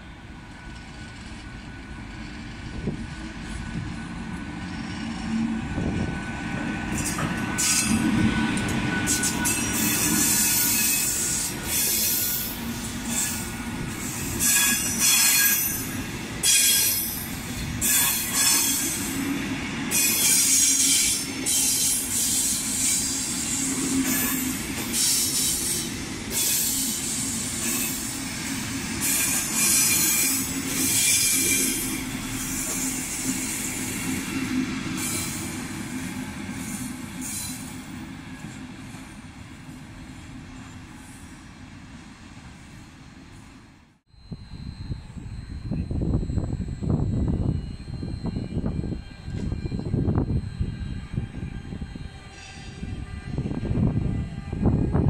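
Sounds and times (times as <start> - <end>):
train rumble: 0.0 - 55.0
train wheels squealing: 4.6 - 39.3, 43.3 - 54.8.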